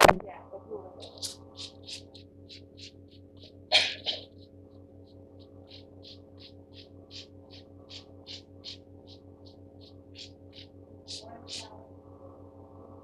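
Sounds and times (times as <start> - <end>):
low electrical hum: 0.0 - 13.0
brush scrubbing on paper: 1.0 - 11.8.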